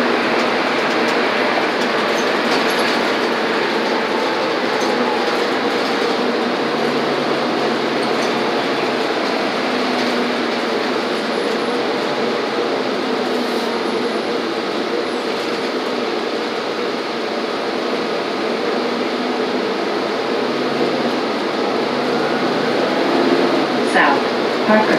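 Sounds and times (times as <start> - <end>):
bus engine and road noise: 0.0 - 24.9.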